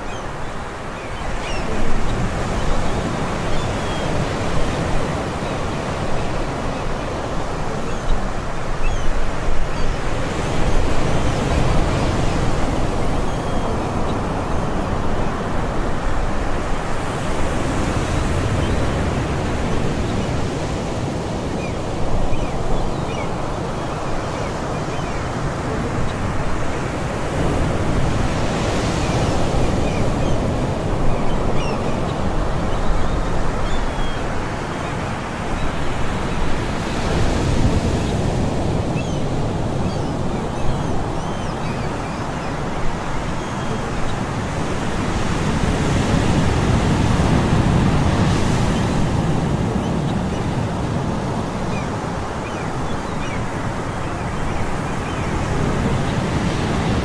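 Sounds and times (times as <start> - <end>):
distant seagull calls: 0.0 - 57.0
ocean surf washing: 0.0 - 57.0.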